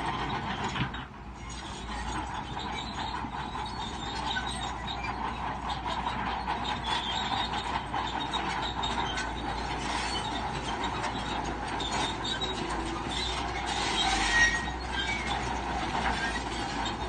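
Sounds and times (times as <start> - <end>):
bulldozer engine running: 0.0 - 17.0
bulldozer tracks clanking and squealing: 0.0 - 17.0.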